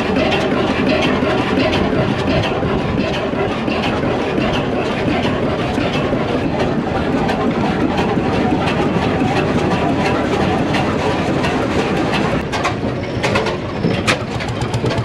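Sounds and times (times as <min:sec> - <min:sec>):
diesel engine clattering: 0:00.0 - 0:15.0.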